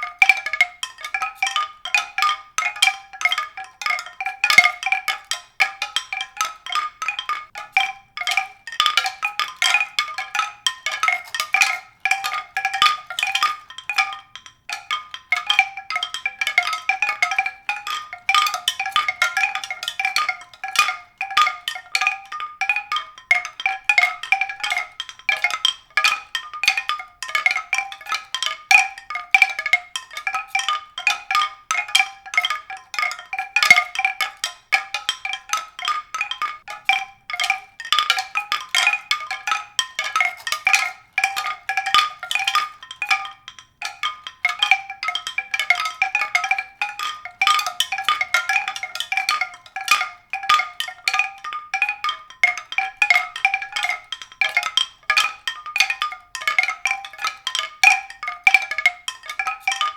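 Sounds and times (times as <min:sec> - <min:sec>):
mallet percussion music: 0:00.0 - 0:59.9.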